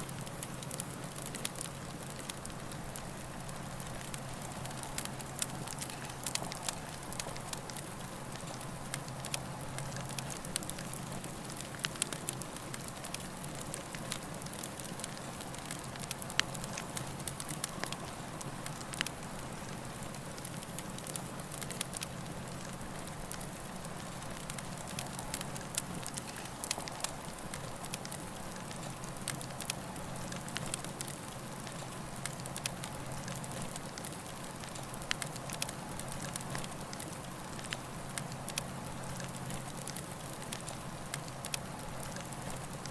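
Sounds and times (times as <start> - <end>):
campfire wood crackling: 0.0 - 42.9.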